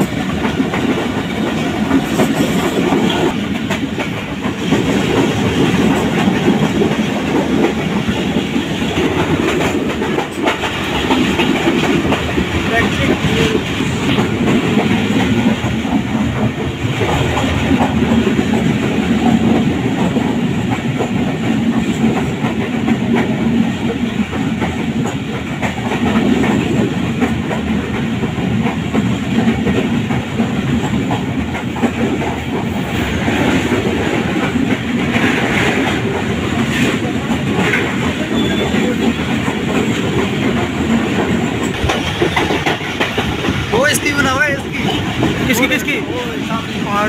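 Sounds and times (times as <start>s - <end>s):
train wheels clattering on rails: 0.0s - 47.0s.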